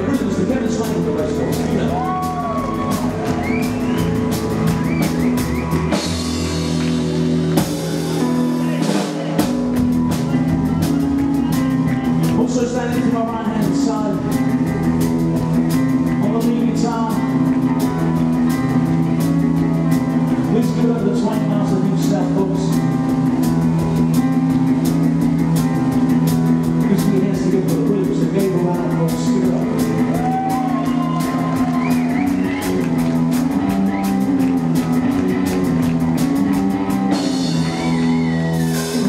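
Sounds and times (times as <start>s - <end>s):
rockabilly band playing: 0.0s - 39.0s.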